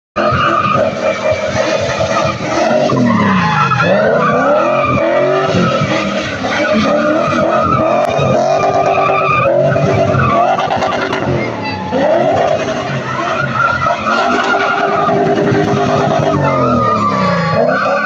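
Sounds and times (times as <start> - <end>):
car engine revving hard: 0.2 - 18.0
tyres squealing: 0.2 - 18.0.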